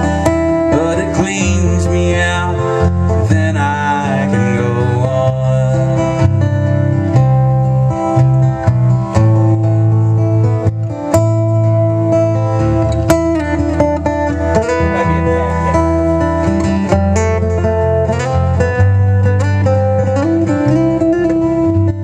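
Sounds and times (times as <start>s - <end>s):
acoustic guitar plucking: 0.0s - 22.0s.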